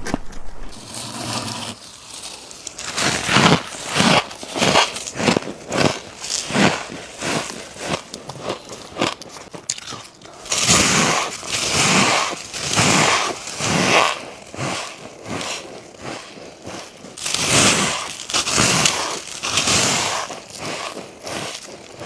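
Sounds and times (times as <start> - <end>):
frost crunching as chewed: 1.8 - 22.0.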